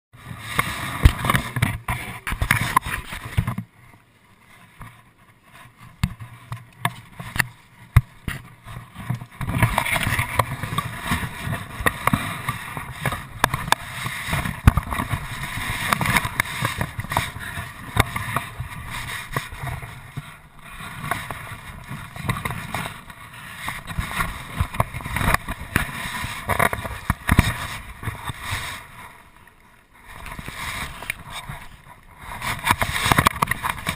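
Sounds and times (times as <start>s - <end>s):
camera rubbing and scraping: 0.3s - 3.7s, 4.4s - 29.2s, 30.1s - 33.9s.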